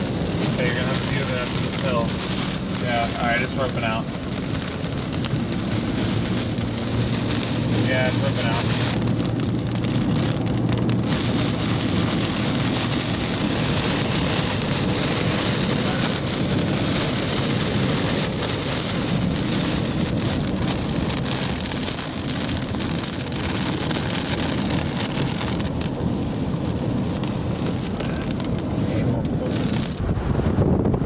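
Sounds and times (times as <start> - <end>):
rain on a moving vehicle: 0.0 - 31.0
road and engine noise: 0.0 - 31.0.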